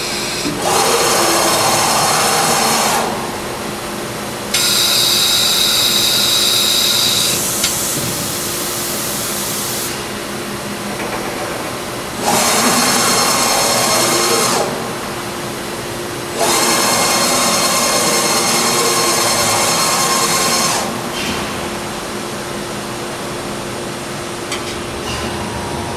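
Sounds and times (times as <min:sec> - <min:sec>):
steady machine hum: 0:00.0 - 0:25.9.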